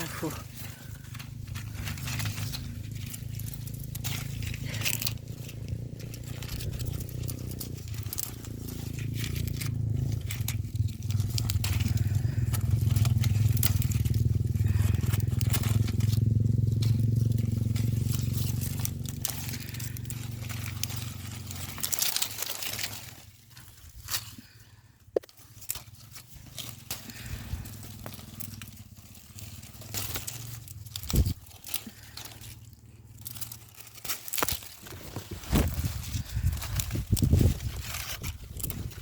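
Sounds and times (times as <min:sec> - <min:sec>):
dry plants crackling and rustling: 0:00.0 - 0:39.0.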